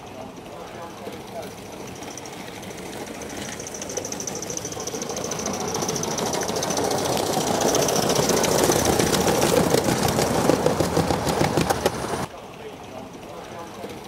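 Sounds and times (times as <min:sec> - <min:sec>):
model steam locomotive running: 0:00.0 - 0:14.0.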